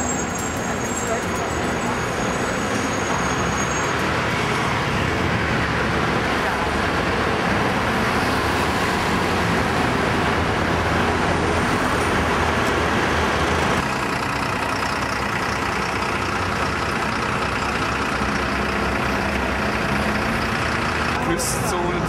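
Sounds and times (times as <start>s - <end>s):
cars and buses passing: 0.0s - 22.0s.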